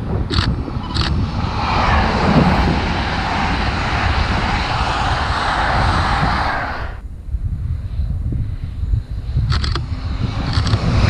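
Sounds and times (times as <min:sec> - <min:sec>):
high-speed train passing: 0:00.0 - 0:07.0, 0:09.1 - 0:11.0.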